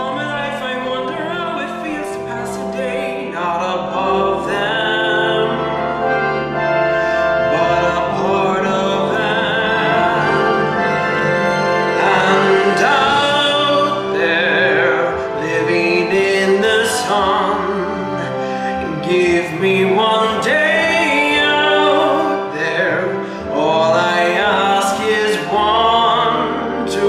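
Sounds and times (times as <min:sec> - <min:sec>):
instrumental karaoke backing track: 0:00.0 - 0:27.0
man singing: 0:00.0 - 0:27.0.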